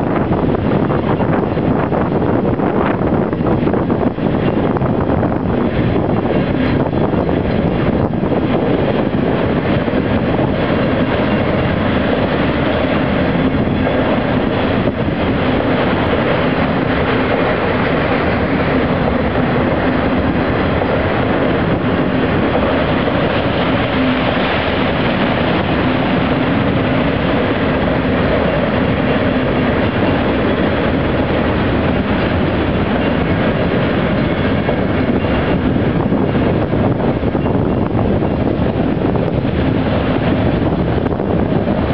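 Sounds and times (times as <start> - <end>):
train wheels running on rails: 0.0 - 41.9.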